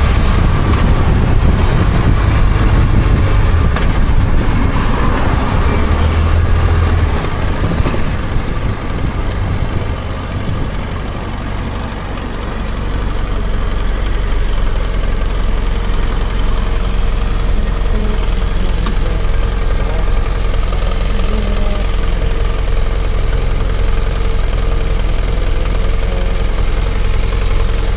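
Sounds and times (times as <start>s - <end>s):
motorcycle engine running: 0.0s - 27.9s
road and wind noise: 0.0s - 27.9s.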